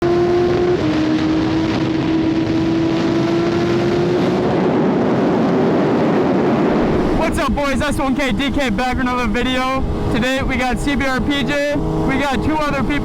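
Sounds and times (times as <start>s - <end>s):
motorcycle engine at high revs: 0.0s - 13.0s
wind rushing: 0.5s - 12.2s.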